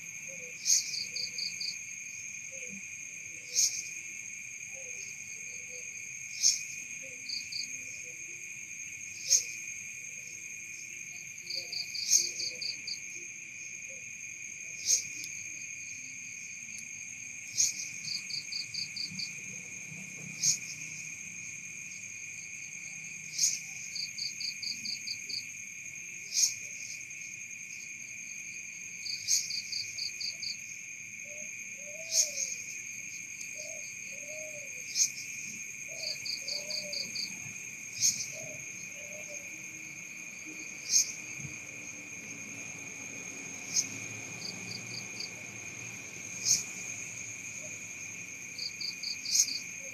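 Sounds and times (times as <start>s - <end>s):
crickets droning: 0.0s - 49.9s
insect sharp chirps and pulses: 0.1s - 49.9s.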